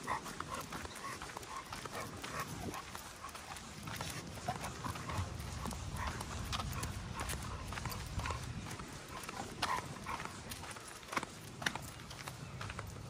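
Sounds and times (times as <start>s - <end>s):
footsteps on pavement: 0.0s - 13.0s.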